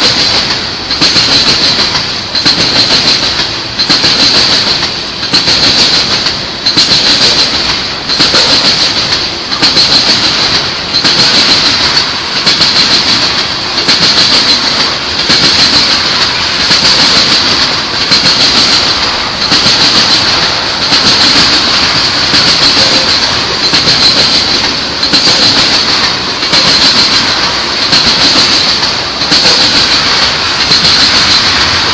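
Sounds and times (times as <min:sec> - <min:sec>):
train rumble: 0:00.0 - 0:31.9
train wheels clicking over rail joints: 0:00.0 - 0:31.9.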